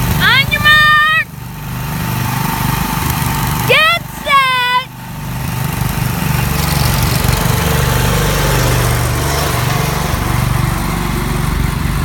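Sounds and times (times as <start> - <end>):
garden tractor engines running: 0.0 - 12.0.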